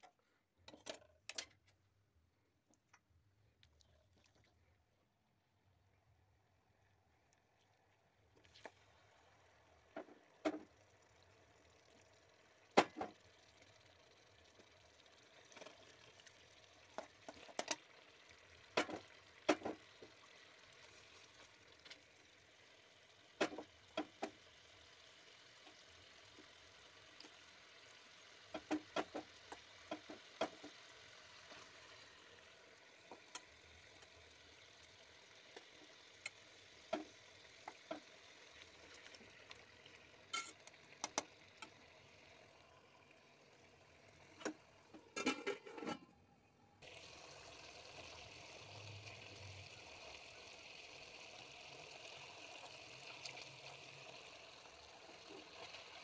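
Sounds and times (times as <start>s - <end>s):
chicken sizzling in oil: 8.6s - 44.8s, 46.8s - 56.0s.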